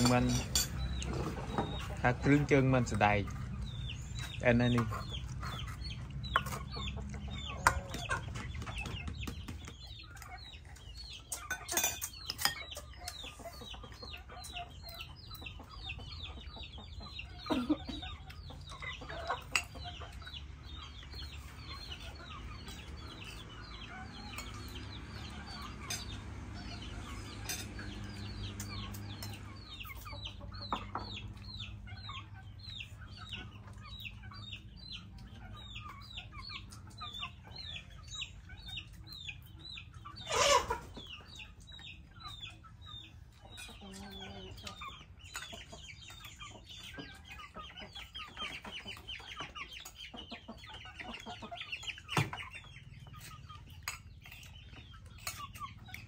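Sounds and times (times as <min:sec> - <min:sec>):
chickens peeping: 0:00.0 - 0:56.0.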